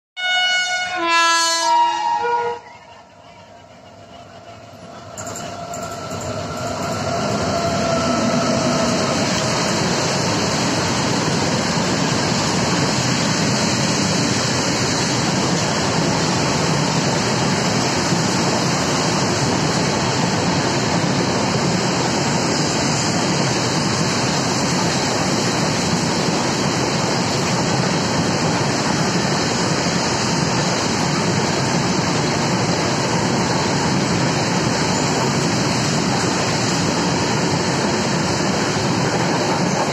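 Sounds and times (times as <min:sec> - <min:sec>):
freight train rumbling on rails: 0:00.2 - 0:39.9.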